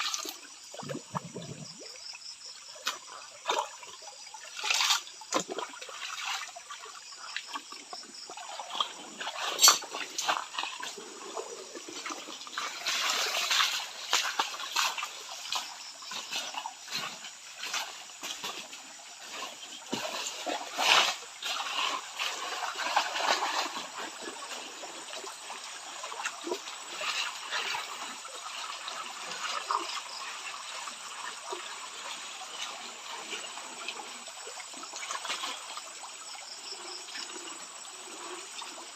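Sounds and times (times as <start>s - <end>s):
small clicks and splashes: 0.0s - 37.3s
water trickling in a stream: 0.0s - 38.9s.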